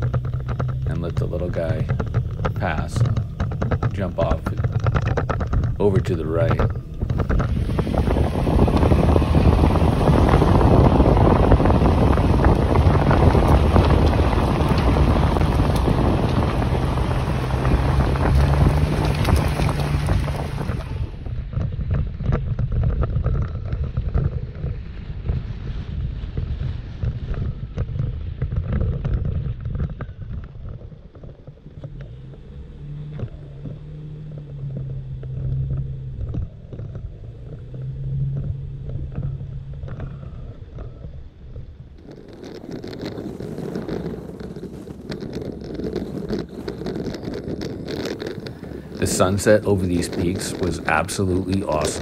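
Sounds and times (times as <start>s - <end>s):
gravel crackling under tyres: 0.0s - 52.0s
truck engine hum: 0.0s - 52.0s
tyre rumble: 0.0s - 52.0s
wind buffeting microphone: 0.0s - 52.0s.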